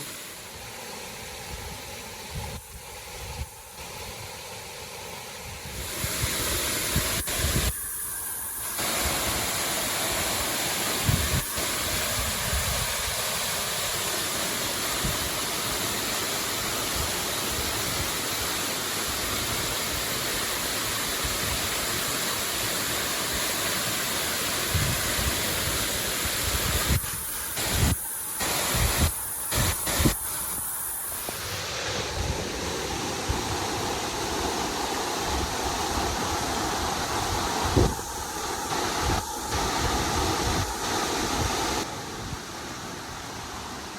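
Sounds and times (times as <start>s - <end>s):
waterfall rushing: 0.0s - 2.3s, 5.8s - 43.9s.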